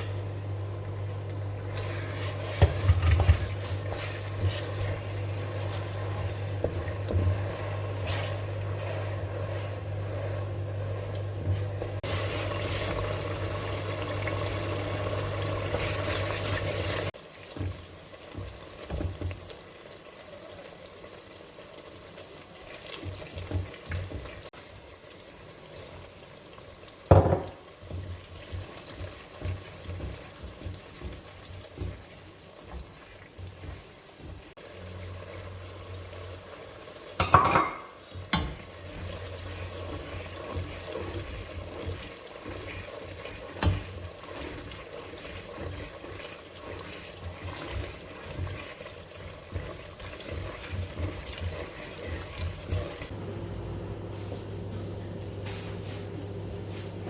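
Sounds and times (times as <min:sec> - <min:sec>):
stirring in a pan: 0:00.9 - 0:53.2
food sizzling: 0:01.6 - 0:54.0.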